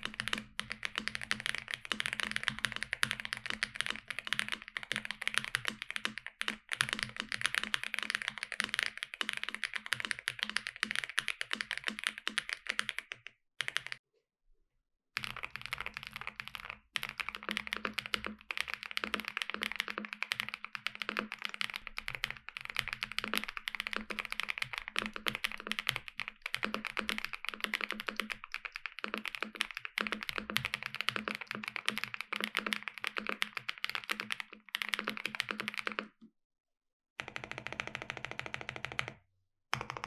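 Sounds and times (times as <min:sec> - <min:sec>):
fast typing on mechanical keyboard: 0:00.0 - 0:14.0, 0:15.2 - 0:36.2, 0:37.2 - 0:39.2, 0:39.8 - 0:40.0.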